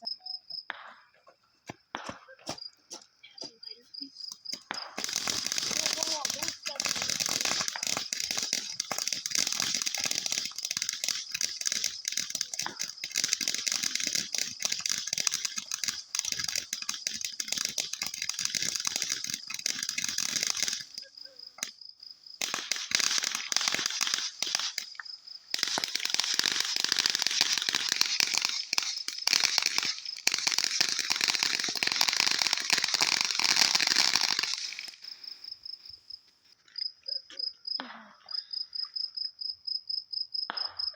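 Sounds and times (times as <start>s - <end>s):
fireworks crackling: 0.6s - 36.1s
crickets trilling: 2.3s - 40.9s.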